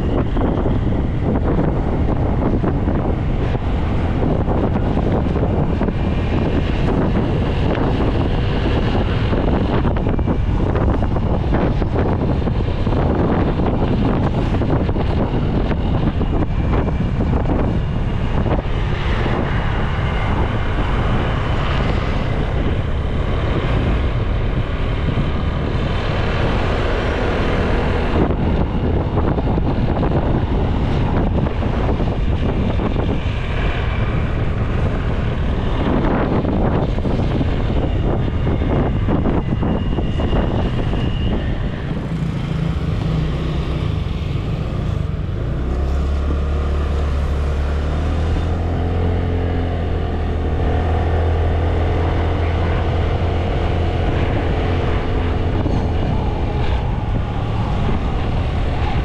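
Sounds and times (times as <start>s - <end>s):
motorbike engine rumble: 0.0s - 59.0s
road and wind noise: 0.0s - 59.0s.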